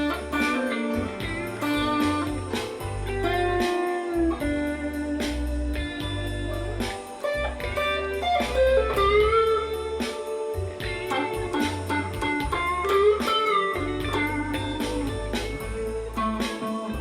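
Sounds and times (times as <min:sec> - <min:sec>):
blues backing track: 0:00.0 - 0:17.0
electric guitar lead: 0:00.0 - 0:17.0.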